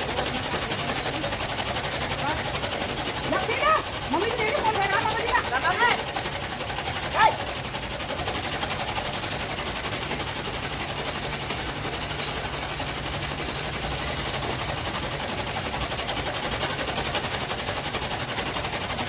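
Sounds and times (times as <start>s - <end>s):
machine clattering: 0.0s - 19.0s.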